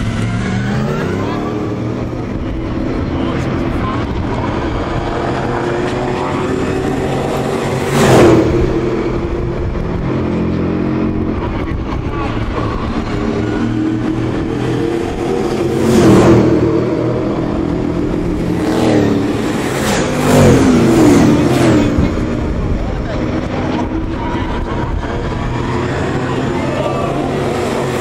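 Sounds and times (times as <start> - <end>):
race cars passing by: 0.0 - 28.0.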